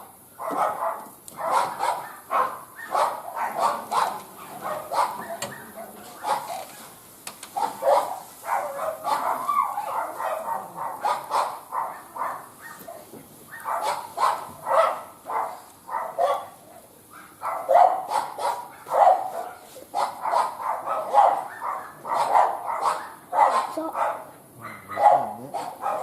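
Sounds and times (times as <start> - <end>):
dog barking: 0.4 - 6.6, 7.6 - 26.0.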